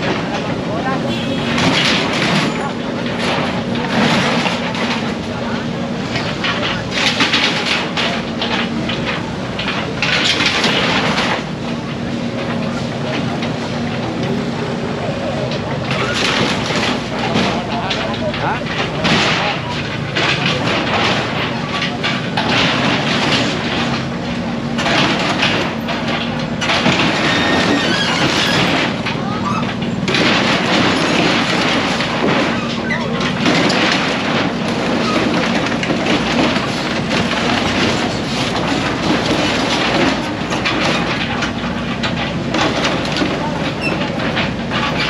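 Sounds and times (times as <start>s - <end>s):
metal clanking and scraping: 0.0s - 45.0s.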